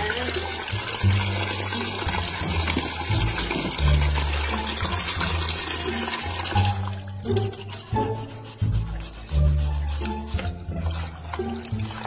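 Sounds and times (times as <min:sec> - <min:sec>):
tap water pouring into basin: 0:00.0 - 0:08.6, 0:10.0 - 0:12.0.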